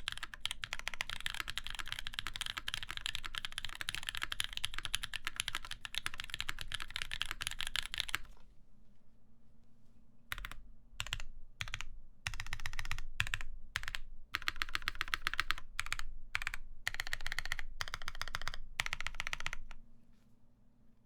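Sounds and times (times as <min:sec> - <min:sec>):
fast mechanical keyboard typing: 0:00.0 - 0:08.4, 0:10.3 - 0:19.8.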